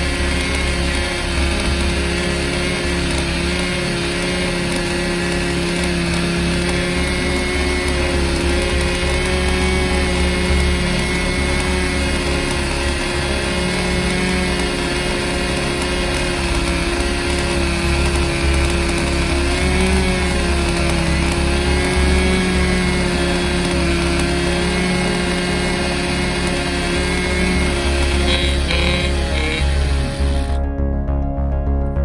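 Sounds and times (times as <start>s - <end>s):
small motor running: 0.0s - 30.7s.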